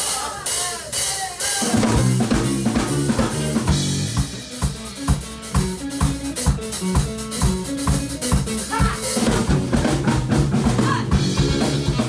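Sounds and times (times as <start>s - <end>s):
drum kick and snare beat: 0.0s - 12.0s
live band playing: 0.0s - 12.0s.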